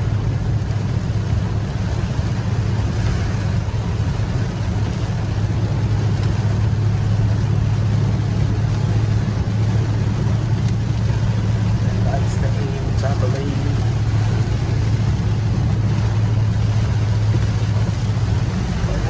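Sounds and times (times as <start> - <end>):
car engine and road rumble: 0.0 - 19.0
rain hissing on car: 0.0 - 19.0
tyres on wet road: 0.0 - 19.0.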